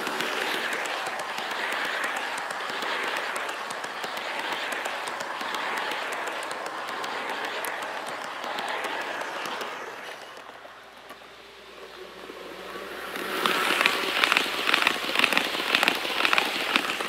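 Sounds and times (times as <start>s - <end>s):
model train cars rattling on track: 0.0s - 17.0s
small clicks: 0.0s - 17.0s.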